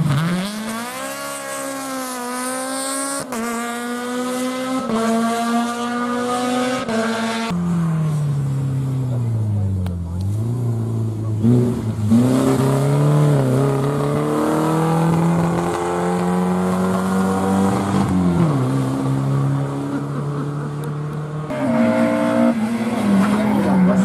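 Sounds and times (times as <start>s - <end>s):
rally car engine under load: 0.0s - 24.0s.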